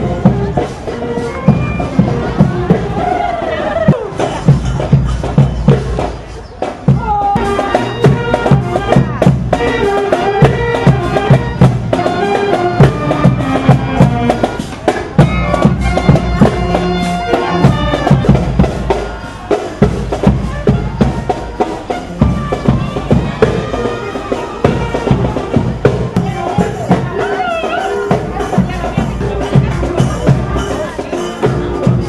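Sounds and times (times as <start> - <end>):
marching band wind instruments: 0.0 - 32.0
steady drumbeat: 0.0 - 32.0.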